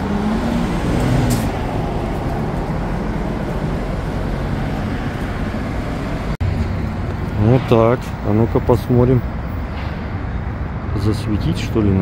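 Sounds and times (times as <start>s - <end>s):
engine hum: 0.0s - 12.0s
street traffic rumble: 0.0s - 12.0s.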